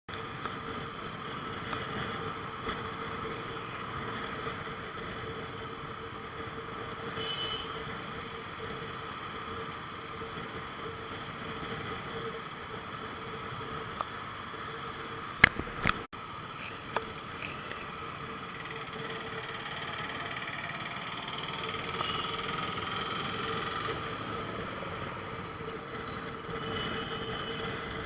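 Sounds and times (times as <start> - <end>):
road traffic noise: 0.1 - 28.0.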